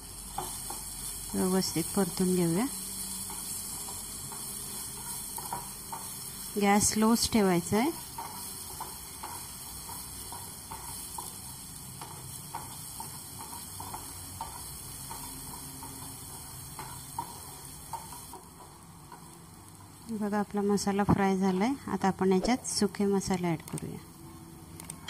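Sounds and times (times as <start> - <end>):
paste sizzling in oil: 0.0 - 21.4.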